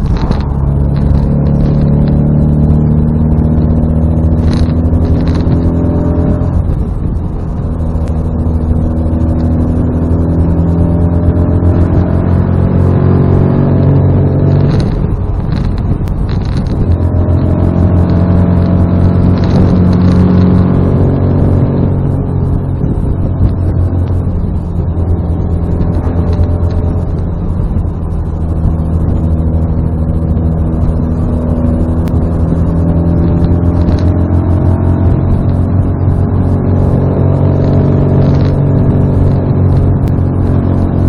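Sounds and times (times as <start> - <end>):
car engine running under load: 0.0 - 41.0.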